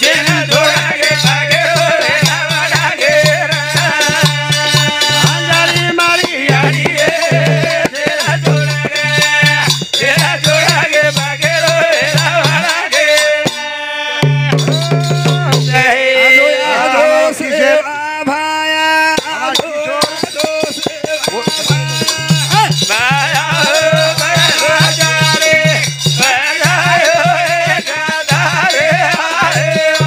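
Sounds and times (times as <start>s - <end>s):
men singing call and response: 0.0s - 30.0s.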